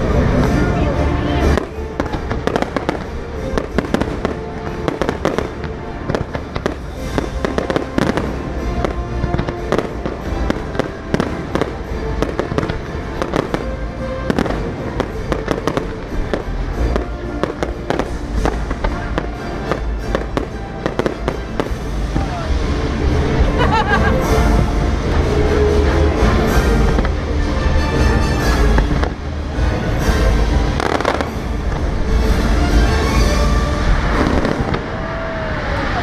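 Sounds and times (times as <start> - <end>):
fireworks bangs and crackles: 0.0 - 36.0
low rumble: 0.0 - 36.0
music holding long notes: 0.0 - 36.0.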